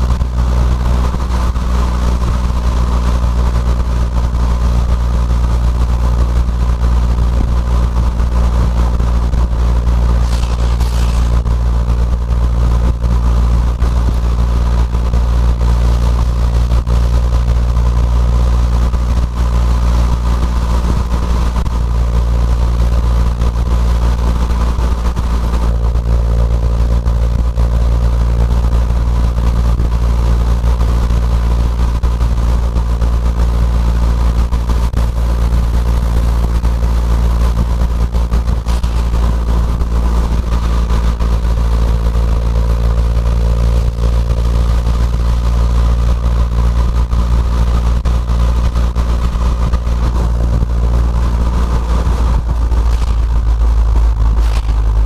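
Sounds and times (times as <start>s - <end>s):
car engine cruising: 0.0s - 55.0s
low exhaust drone: 0.0s - 55.0s.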